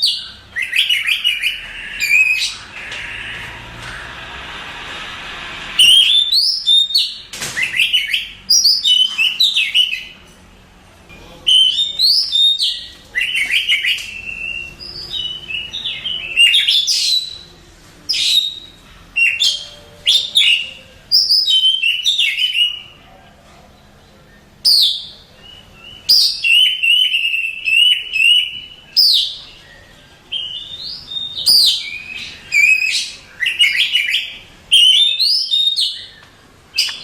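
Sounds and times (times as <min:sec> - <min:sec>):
songbird whistling and trilling: 0:00.0 - 0:02.6, 0:05.8 - 0:10.2, 0:11.4 - 0:17.5, 0:18.1 - 0:23.0, 0:24.4 - 0:36.2.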